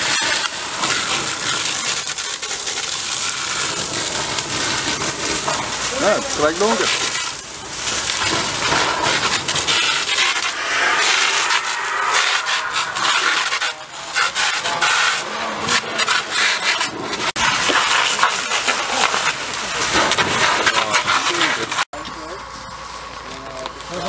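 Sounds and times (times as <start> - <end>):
fire crackling: 0.0 - 24.0
fire hose water hissing: 0.0 - 24.0.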